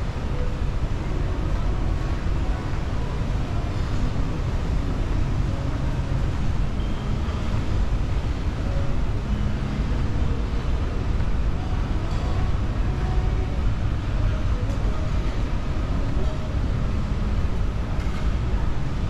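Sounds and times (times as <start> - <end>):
low rumble of mall background: 0.0 - 19.0.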